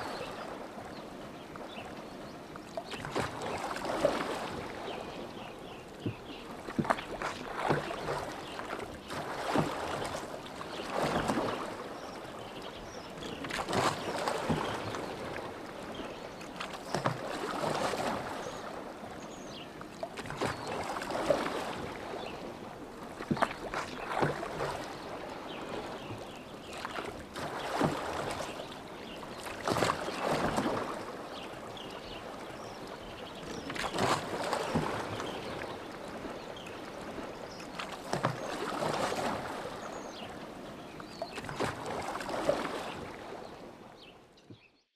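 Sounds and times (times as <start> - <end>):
oars splashing in water: 0.0 - 44.7.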